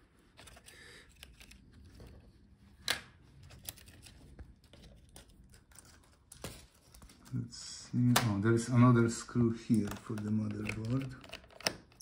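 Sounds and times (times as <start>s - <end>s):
cable clicks and rustling: 0.1s - 8.6s, 9.6s - 12.0s.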